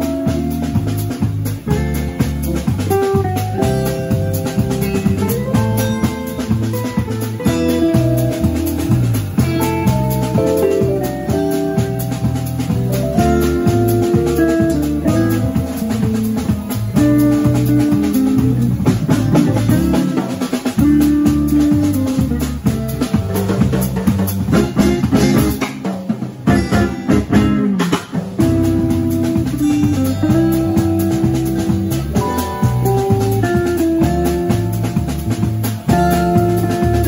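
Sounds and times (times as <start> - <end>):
latin jazz band playing: 0.0 - 37.0.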